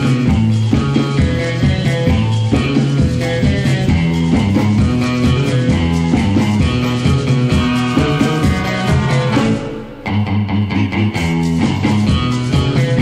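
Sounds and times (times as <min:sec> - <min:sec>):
rock music with guitar and bass: 0:00.0 - 0:13.0.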